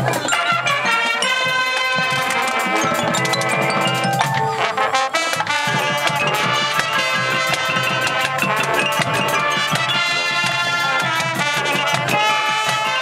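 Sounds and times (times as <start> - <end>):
fast busy drum beat: 0.0 - 13.0
marching band brass: 0.0 - 13.0.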